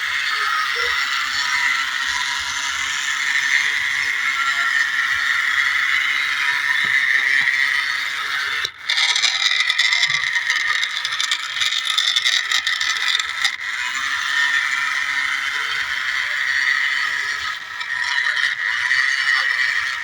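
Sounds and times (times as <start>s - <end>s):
toy electric motor whining: 0.0s - 20.0s
scraping and rattling on ground: 0.3s - 20.0s.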